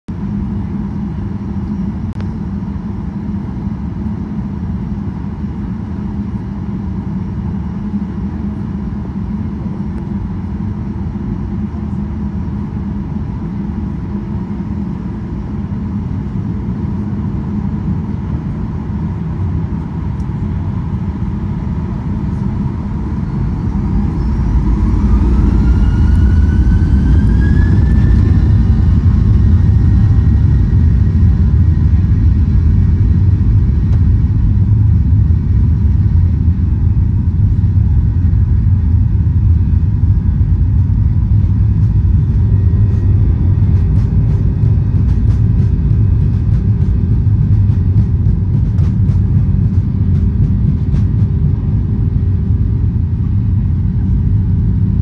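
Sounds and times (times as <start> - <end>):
jet engines spooling up: 7.5 - 55.0.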